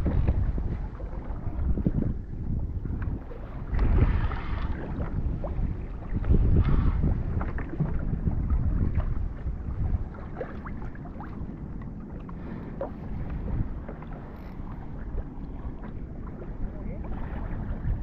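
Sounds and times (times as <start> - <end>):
water slapping against hull: 0.0 - 18.0
wind buffeting microphone: 0.0 - 18.0.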